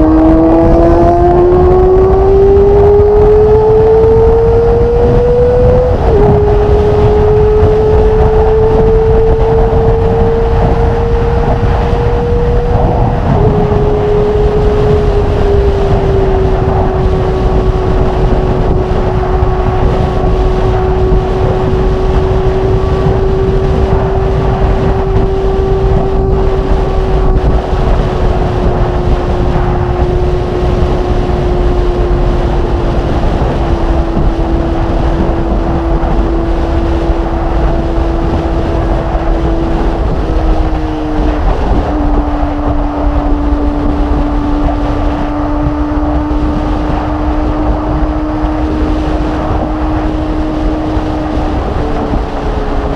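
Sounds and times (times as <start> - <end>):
motorcycle engine at high revs: 0.0 - 52.9
wind rushing over microphone: 0.0 - 52.9.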